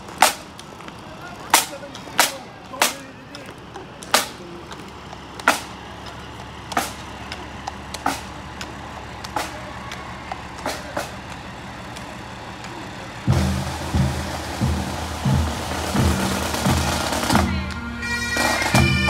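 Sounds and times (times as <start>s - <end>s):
drum taps marching beat: 0.0s - 19.0s
tractor engines idling: 0.0s - 19.0s.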